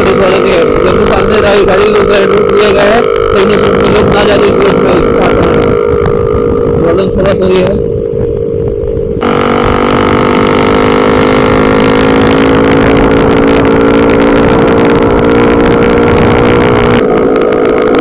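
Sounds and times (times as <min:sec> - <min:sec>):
motorcycle engine running: 0:00.0 - 0:18.0
wind rushing on microphone: 0:00.0 - 0:18.0.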